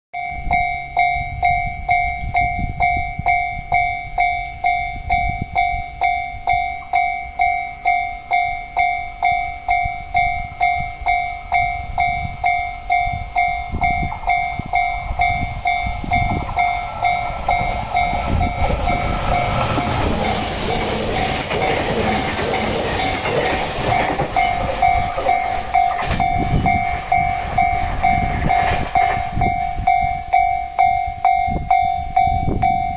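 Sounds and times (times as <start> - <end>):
electric train passing: 0.2 - 32.9
level crossing warning bell: 0.2 - 32.9.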